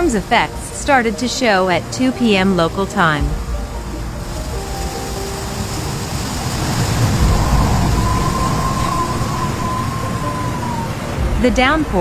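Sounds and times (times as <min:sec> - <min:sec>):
heavy rain rushing: 0:00.0 - 0:12.0
low rumbling: 0:00.0 - 0:12.0.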